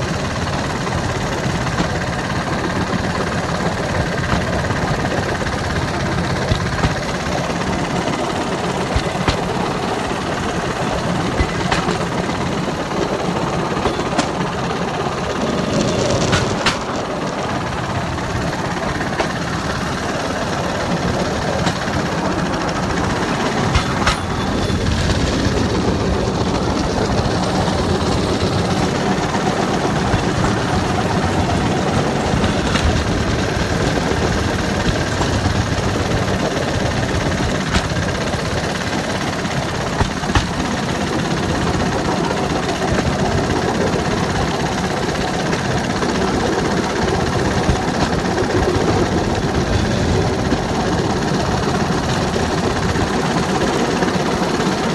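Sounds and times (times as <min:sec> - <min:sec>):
engine and rattling rumble on rails: 0:00.0 - 0:54.9
sharp clacks of wheels: 0:00.0 - 0:54.9.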